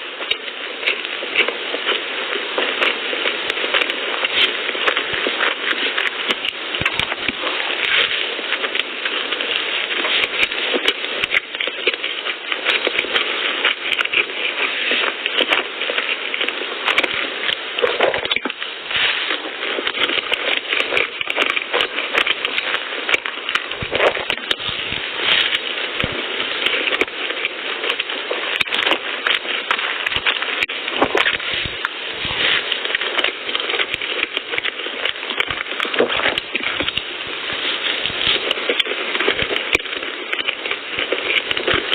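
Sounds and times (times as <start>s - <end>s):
mouth clicks and crackles: 0.0s - 41.9s
wet chewing of pastries: 0.0s - 41.9s.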